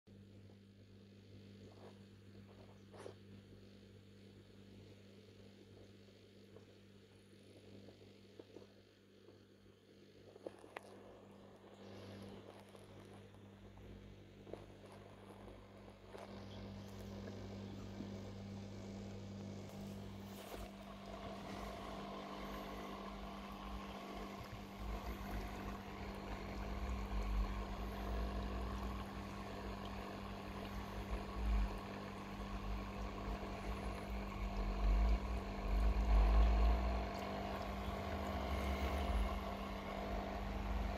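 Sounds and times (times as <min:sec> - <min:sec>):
aquarium pump humming: 0:00.1 - 0:40.9.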